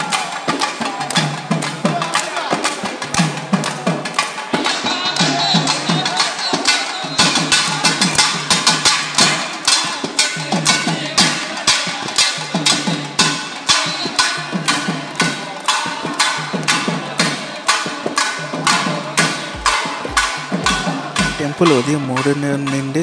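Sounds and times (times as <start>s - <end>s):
music with sharp percussion beat: 0.0s - 23.0s.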